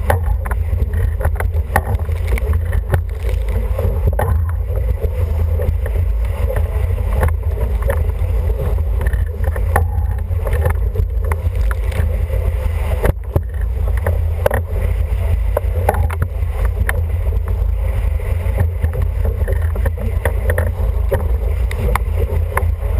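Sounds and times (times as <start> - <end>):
water splashes: 0.0 - 22.9.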